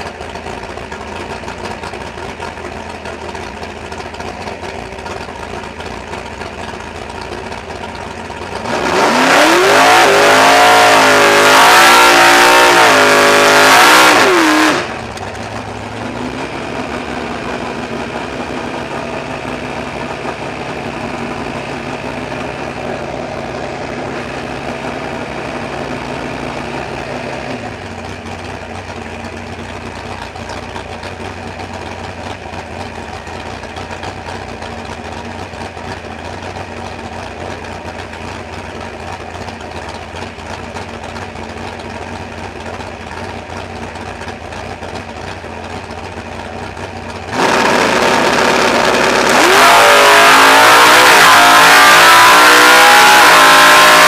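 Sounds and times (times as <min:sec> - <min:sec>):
drag car engine idling and revving: 0:00.0 - 0:54.0.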